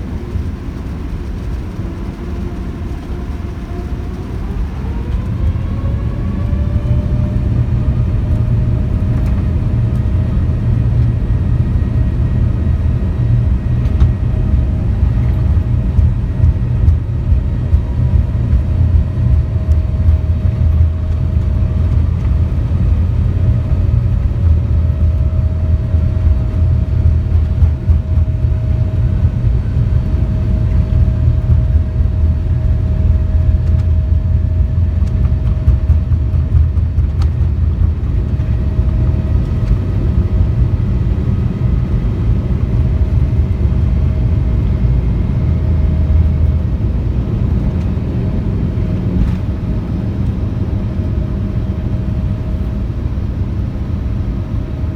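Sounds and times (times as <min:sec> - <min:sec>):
jet engine cabin rumble: 0:00.0 - 0:54.9
mid-pitched whine: 0:04.6 - 0:54.9.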